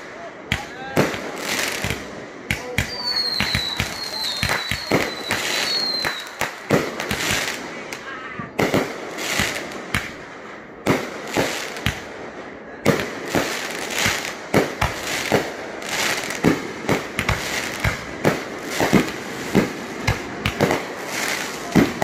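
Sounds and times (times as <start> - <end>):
firework bangs: 0.0 - 22.0.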